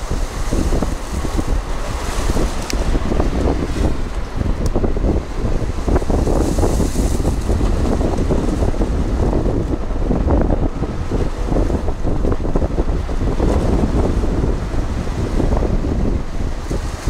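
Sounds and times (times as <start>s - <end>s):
surf washing against boulders: 0.0s - 17.0s
wind buffeting microphone: 0.0s - 17.0s.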